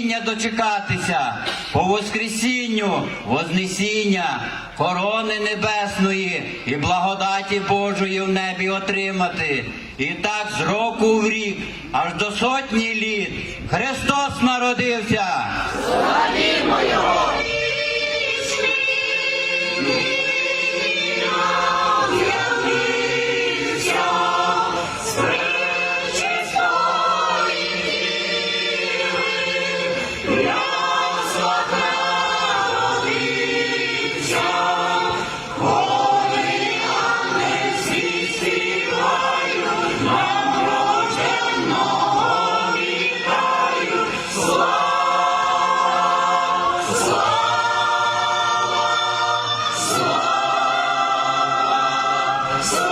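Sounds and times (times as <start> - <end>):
church choir singing a carol: 0.0 - 52.9.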